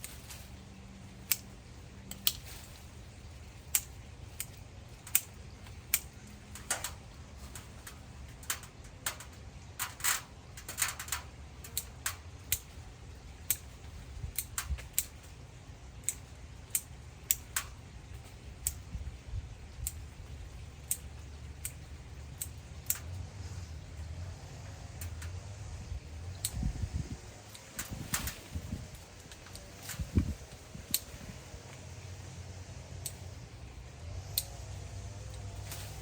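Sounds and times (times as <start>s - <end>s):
pruning shears snipping twigs: 0.0s - 19.0s, 19.7s - 36.0s.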